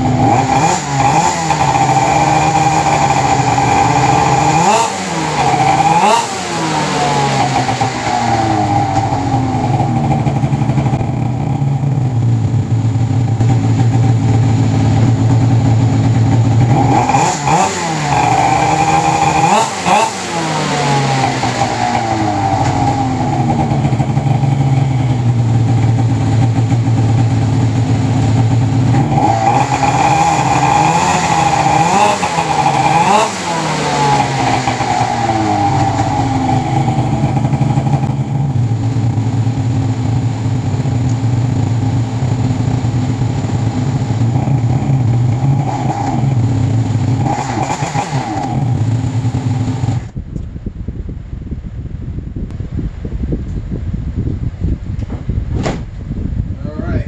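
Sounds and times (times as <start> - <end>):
snowmobile engine revving: 0.0 - 12.5, 13.1 - 50.1.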